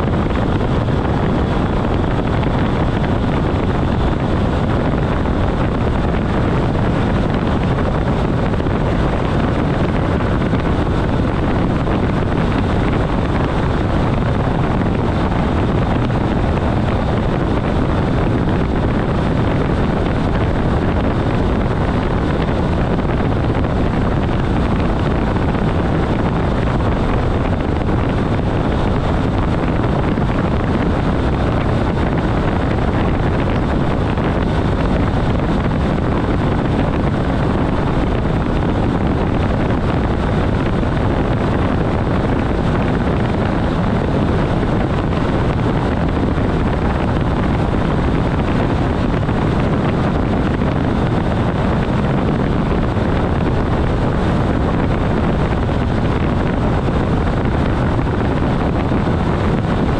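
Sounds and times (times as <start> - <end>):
rushing air: 0.0 - 59.9.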